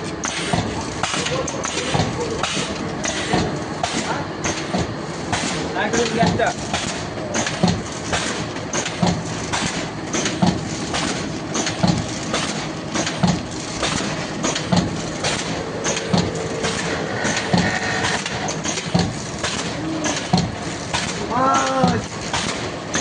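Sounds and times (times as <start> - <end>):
machine knocking: 0.0 - 23.0
packing machine clattering: 0.0 - 23.0.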